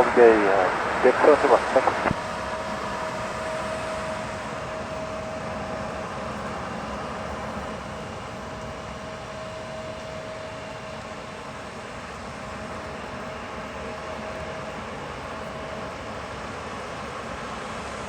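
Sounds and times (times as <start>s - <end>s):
jet engines idling: 0.0s - 18.0s.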